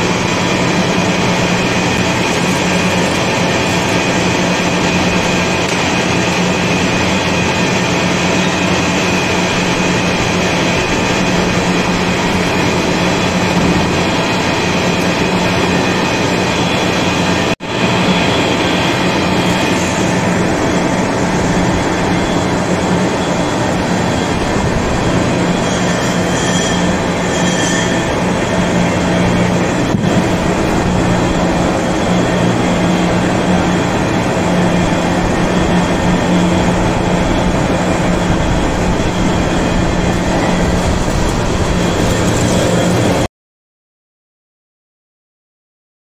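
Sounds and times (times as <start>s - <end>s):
lathe mechanical drone: 0.0s - 43.3s
low hum: 0.0s - 43.3s.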